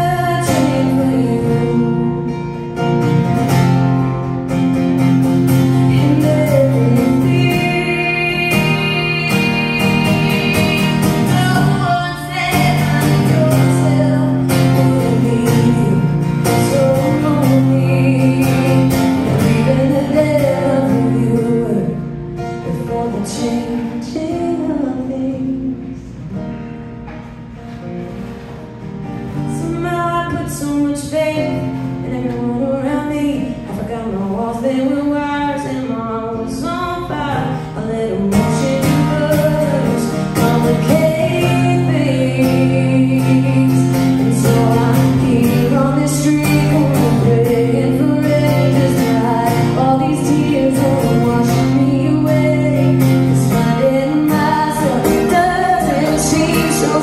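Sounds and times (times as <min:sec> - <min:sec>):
woman singing: 0:00.0 - 0:03.6, 0:05.0 - 0:26.2, 0:29.2 - 0:57.0
strummed acoustic guitar: 0:00.0 - 0:57.0.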